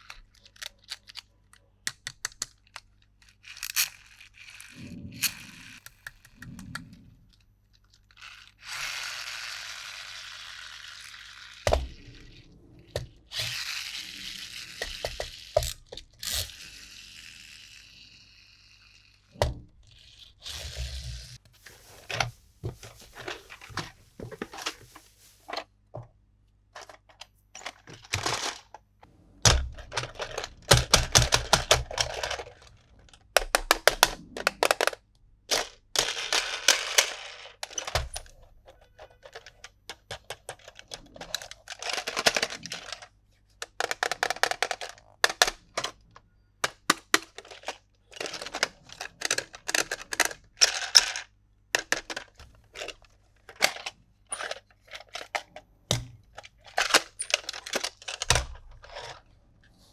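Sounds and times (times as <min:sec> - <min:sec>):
hard plastic pieces clicking: 0:00.0 - 0:16.8, 0:26.7 - 0:59.2.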